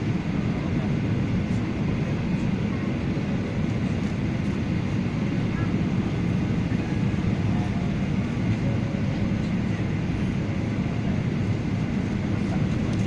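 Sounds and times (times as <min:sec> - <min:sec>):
airliner landing rumble: 0:00.0 - 0:13.0.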